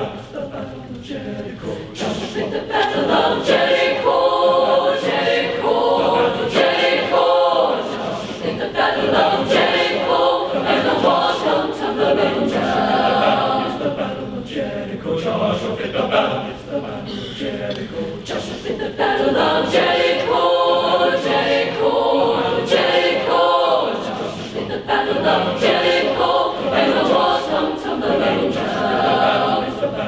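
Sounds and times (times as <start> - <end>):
mixed choir singing a spiritual: 0.0 - 30.0.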